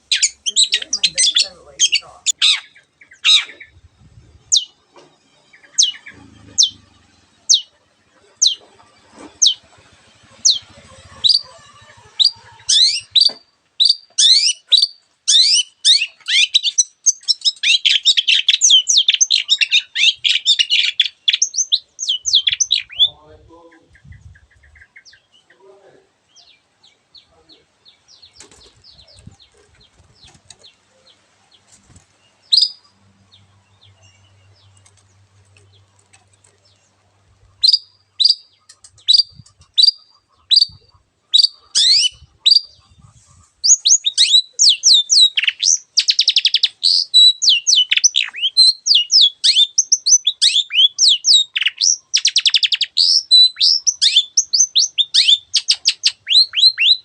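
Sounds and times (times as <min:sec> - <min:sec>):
shrike chirping and chattering: 0:00.0 - 0:04.8, 0:05.4 - 0:25.5, 0:32.5 - 0:57.0.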